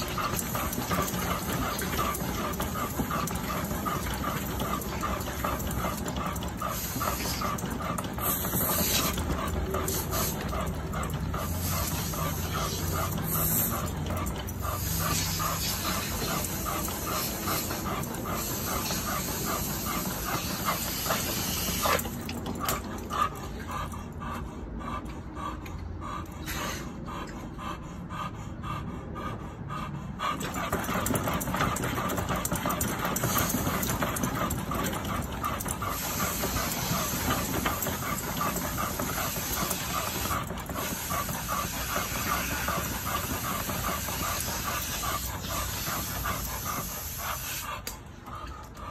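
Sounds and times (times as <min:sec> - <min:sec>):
treadmill belt running: 0:00.0 - 0:23.2, 0:30.3 - 0:47.7
dog panting: 0:00.0 - 0:48.9.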